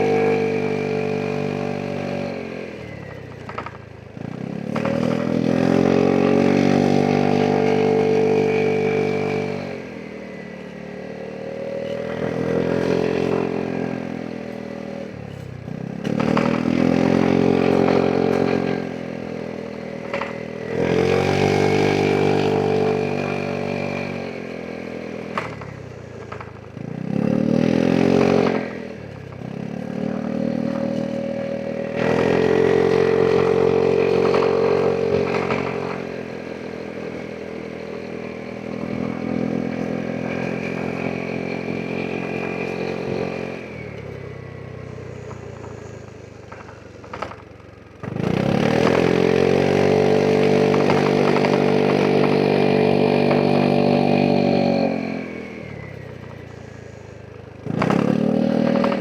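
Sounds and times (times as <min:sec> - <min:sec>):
scooter engine revving: 0:00.0 - 0:59.0.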